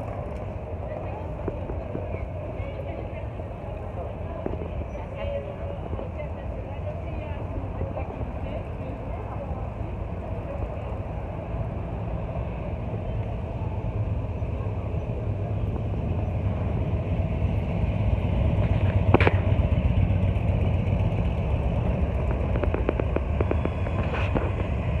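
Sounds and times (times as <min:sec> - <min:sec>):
motorcycle engines rumbling: 0:00.0 - 0:25.0.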